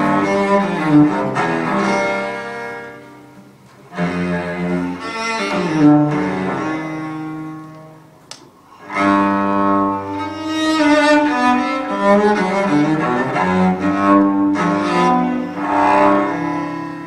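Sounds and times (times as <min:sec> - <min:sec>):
bowed cello notes over loudspeakers: 0:00.0 - 0:08.1, 0:08.7 - 0:17.0.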